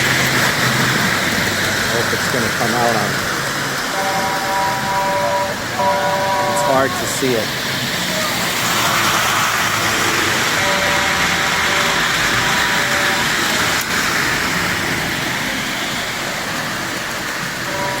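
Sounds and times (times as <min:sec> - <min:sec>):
model train wheels on track: 0:00.0 - 0:18.0.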